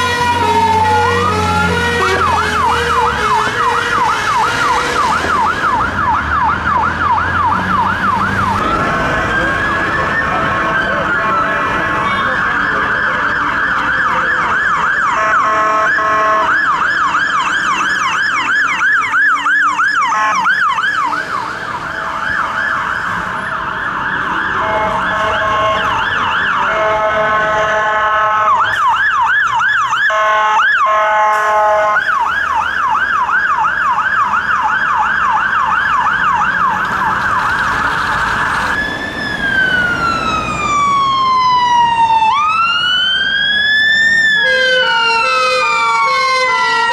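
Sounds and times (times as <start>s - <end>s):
fire engine siren wailing: 0.0s - 46.9s
slow siren wail: 0.0s - 46.9s
two-tone siren: 0.0s - 46.9s.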